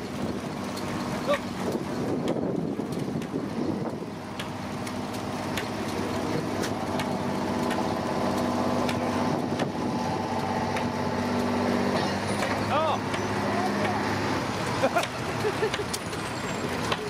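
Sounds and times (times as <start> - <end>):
lorry engine under load: 0.0 - 17.0.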